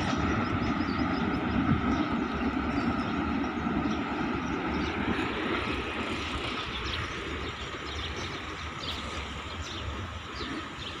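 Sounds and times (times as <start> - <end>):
diesel train rumble: 0.0 - 11.0.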